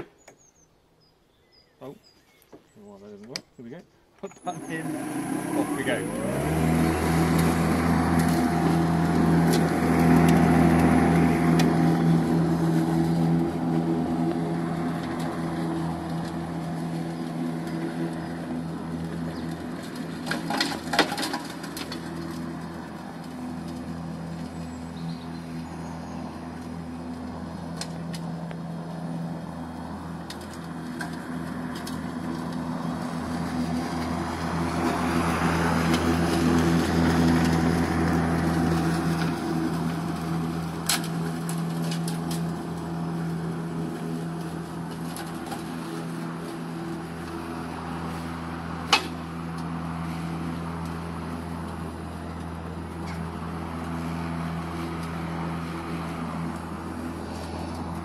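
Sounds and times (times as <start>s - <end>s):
electric lawn mower humming: 4.4s - 58.0s.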